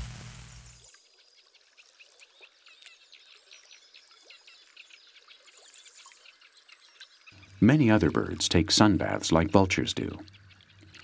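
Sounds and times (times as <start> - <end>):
small birds chirping: 0.5 - 11.0.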